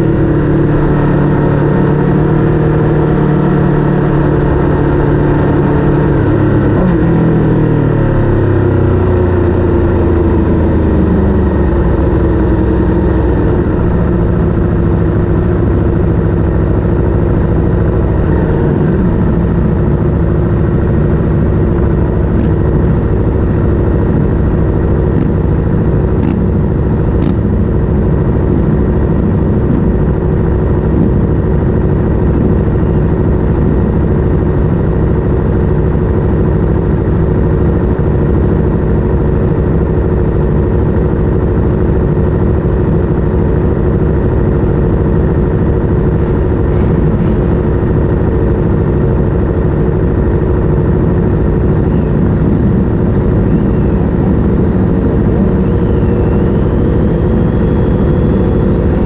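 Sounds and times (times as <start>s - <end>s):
racing engine running: 0.0s - 59.0s.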